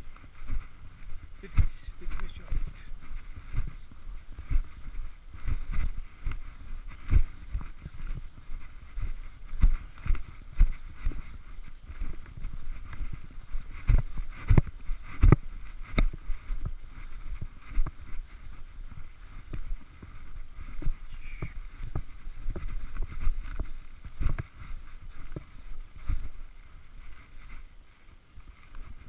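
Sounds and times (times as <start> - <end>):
footsteps in snow: 0.0 - 29.0.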